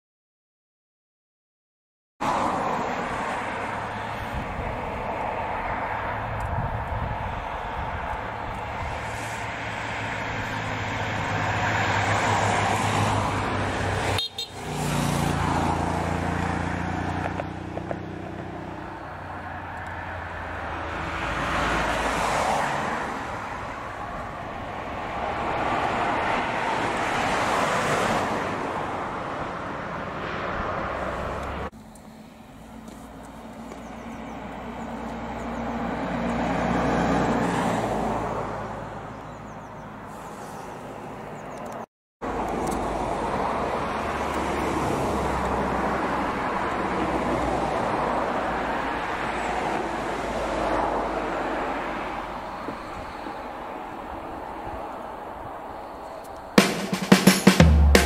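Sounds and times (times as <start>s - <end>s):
vehicles passing: 2.2s - 58.0s.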